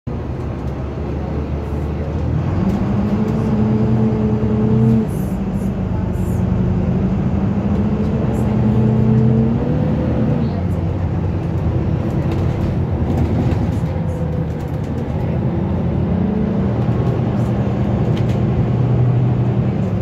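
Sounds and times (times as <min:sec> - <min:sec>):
bus diesel engine accelerating: 0:00.1 - 0:20.0
road noise: 0:00.1 - 0:20.0.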